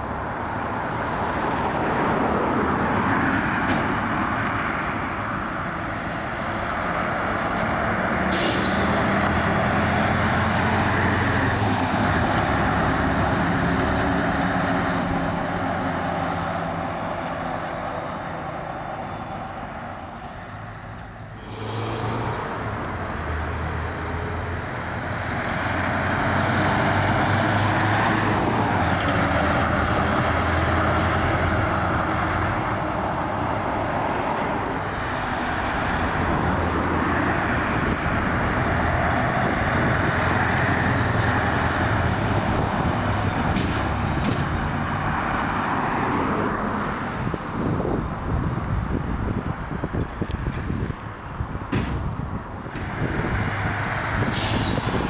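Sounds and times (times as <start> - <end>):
diesel truck engine driving by: 0.0 - 55.0.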